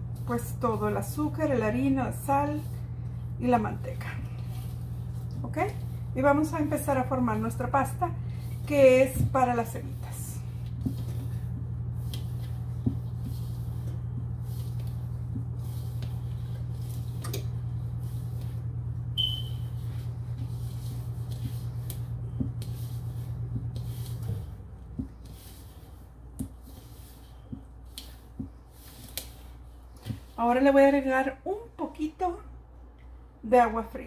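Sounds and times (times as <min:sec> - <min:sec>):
hands squishing dough in bowl: 0:00.0 - 0:31.3
steady low hum: 0:00.0 - 0:34.0.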